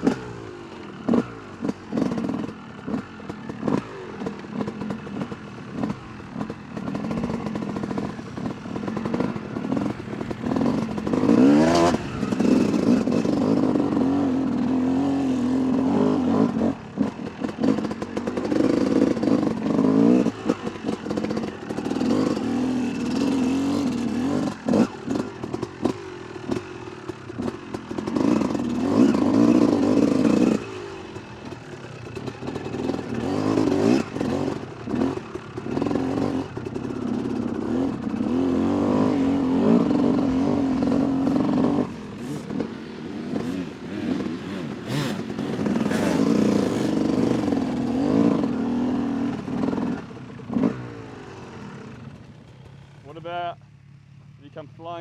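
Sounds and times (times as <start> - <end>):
dirt bike engine revving: 0.0 - 53.6.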